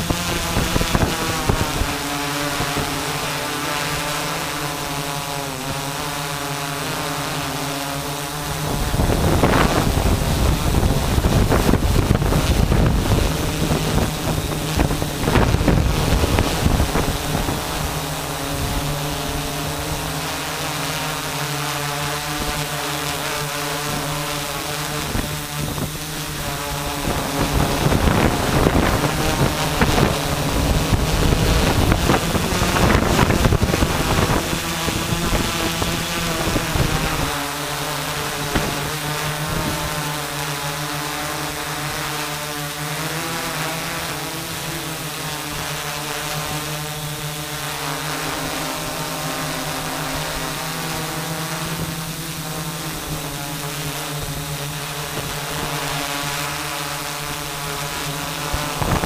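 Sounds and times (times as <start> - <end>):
wind rushing over microphone: 0.0 - 42.1, 48.2 - 59.0
drone motors humming: 0.0 - 59.0.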